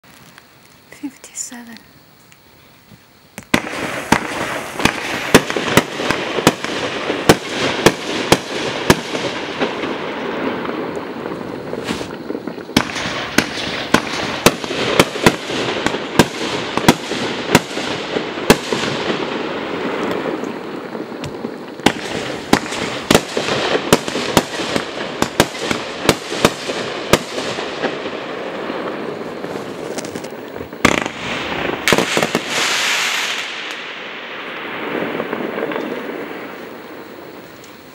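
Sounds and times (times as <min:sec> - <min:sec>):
firework crackling: 0:00.0 - 0:37.9
hiss of burning fireworks: 0:00.0 - 0:37.9
firework bangs: 0:03.3 - 0:37.9.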